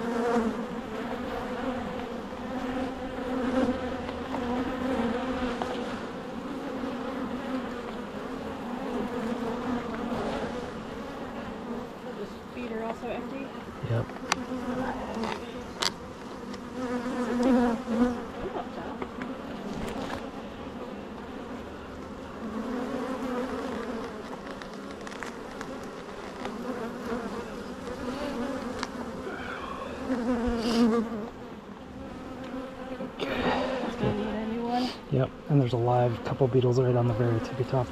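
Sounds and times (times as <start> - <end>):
bees buzzing: 0.0 - 37.9.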